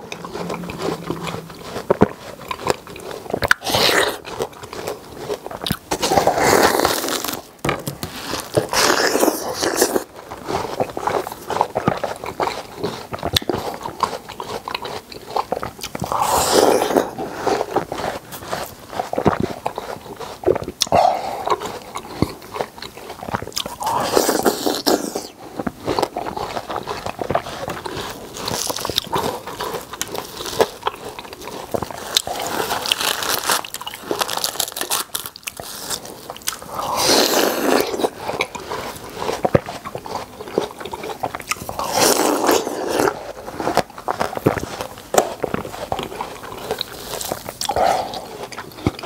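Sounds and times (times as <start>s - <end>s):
biting and chewing watermelon: 0.0s - 49.0s.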